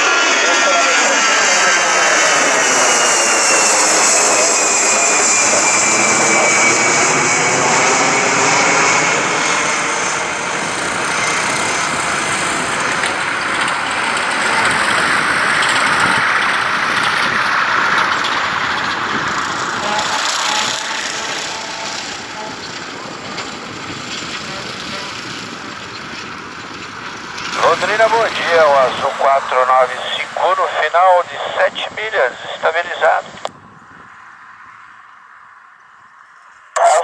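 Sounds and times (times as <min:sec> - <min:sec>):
airliner engines passing by: 0:00.0 - 0:37.0.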